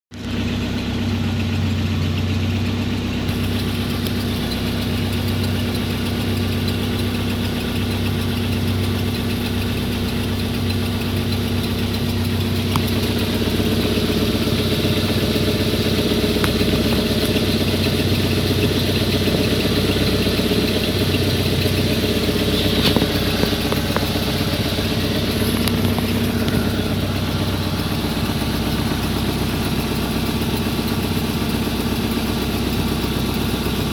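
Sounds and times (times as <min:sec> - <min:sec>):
car engine hum: 0:00.1 - 0:33.9.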